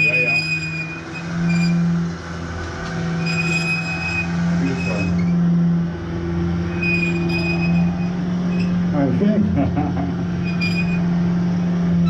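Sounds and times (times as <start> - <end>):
hand-cranked fan whirring: 0.0 - 12.0
high squealing whine: 0.0 - 12.0.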